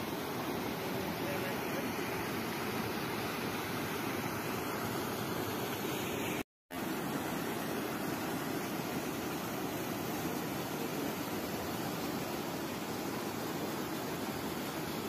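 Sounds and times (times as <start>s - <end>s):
water pouring over dam spillway: 0.0s - 15.0s.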